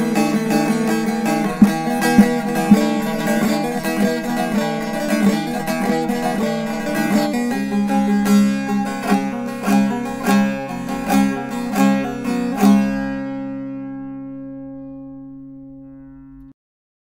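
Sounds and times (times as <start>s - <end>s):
plucked lute strumming: 0.0s - 15.7s.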